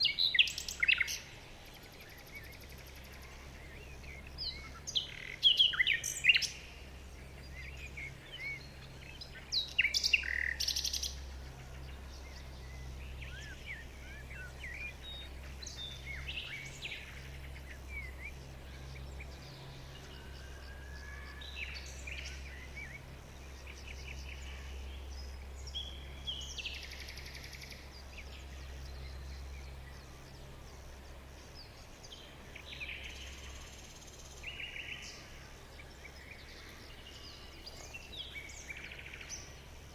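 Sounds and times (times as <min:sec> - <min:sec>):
steady low hum: 0:00.0 - 0:39.9
wild birds chirping and singing: 0:00.0 - 0:39.9.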